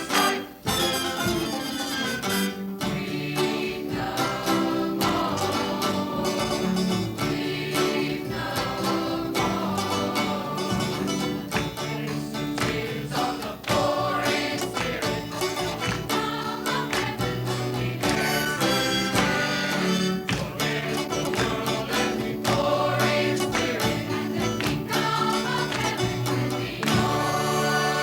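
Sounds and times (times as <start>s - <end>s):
gospel vocal group singing: 0.0s - 28.0s
guitar and band accompaniment: 0.0s - 28.0s.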